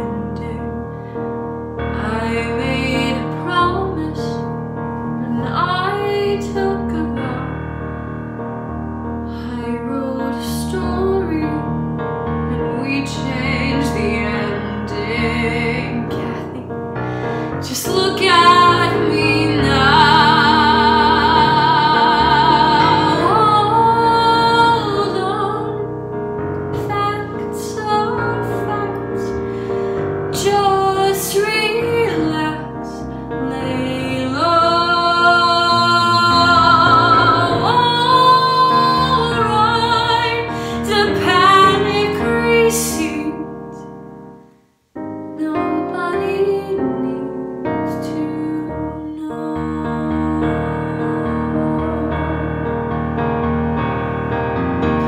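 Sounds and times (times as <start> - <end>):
woman singing a ballad: 0.0 - 1.0, 1.8 - 7.8, 9.3 - 26.0, 26.7 - 43.9, 45.4 - 52.8
piano accompaniment: 0.0 - 55.0.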